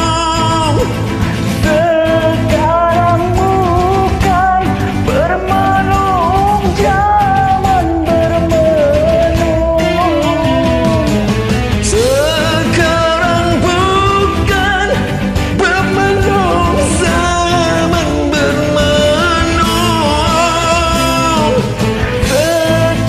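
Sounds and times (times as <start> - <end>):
pop backing track with band: 0.0 - 23.0.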